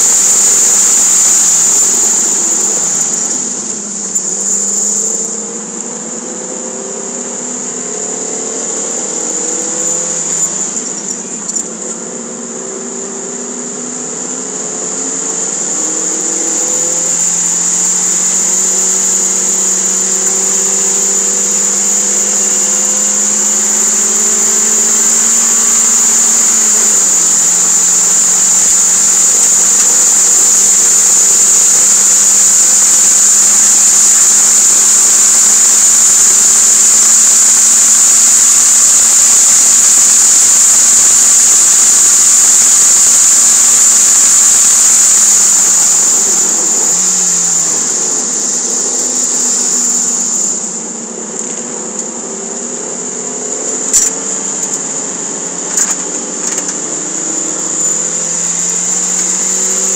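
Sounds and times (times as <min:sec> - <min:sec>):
high-pitched whine: 0:00.0 - 0:59.9.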